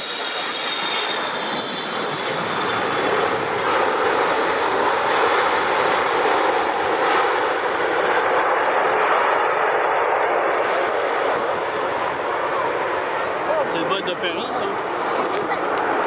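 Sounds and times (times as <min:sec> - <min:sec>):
airliner engine roar: 0:00.0 - 0:16.0.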